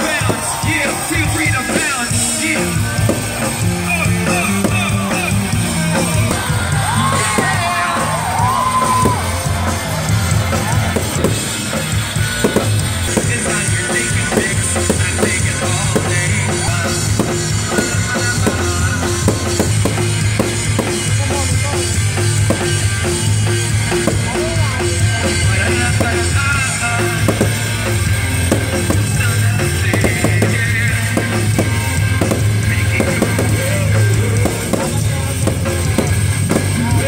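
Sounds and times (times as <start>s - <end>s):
bass notes: 0.0s - 37.0s
drum kit beat: 0.0s - 37.0s.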